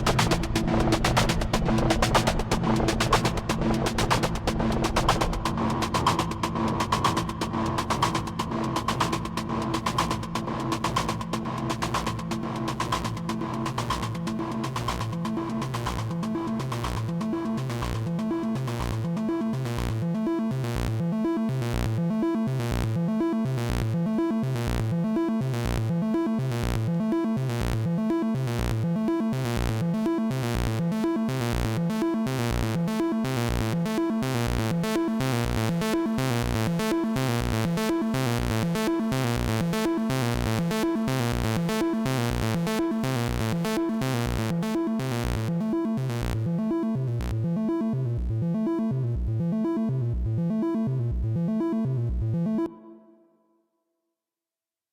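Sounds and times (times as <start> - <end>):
analog synthesizer music: 0.0 - 53.5.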